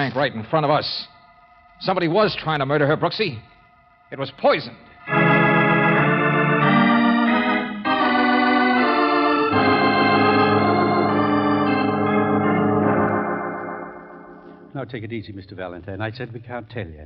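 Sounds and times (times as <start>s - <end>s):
organ held chords: 0.0s - 15.6s.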